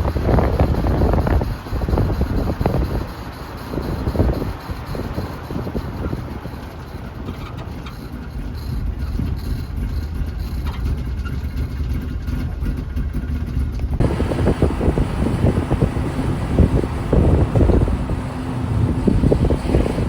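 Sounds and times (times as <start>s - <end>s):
road and drivetrain rumble: 0.0s - 20.0s.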